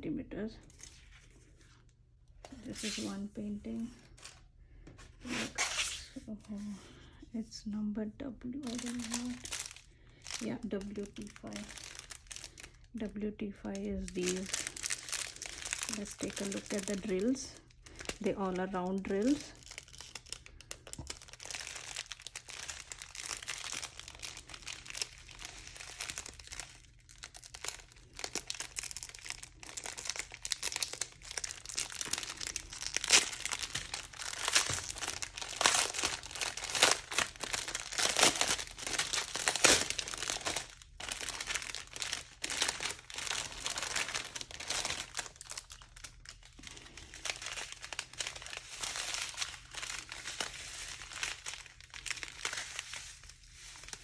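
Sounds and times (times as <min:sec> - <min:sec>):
plastic packets crinkling: 0:00.6 - 0:06.0, 0:08.6 - 0:54.0.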